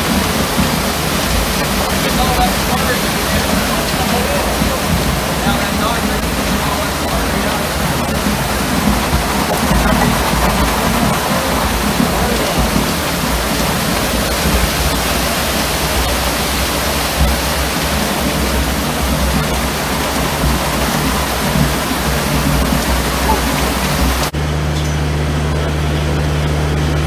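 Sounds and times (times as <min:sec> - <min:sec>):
low rumble: 0:00.0 - 0:27.0
wet concrete rushing down a chute: 0:00.0 - 0:27.0.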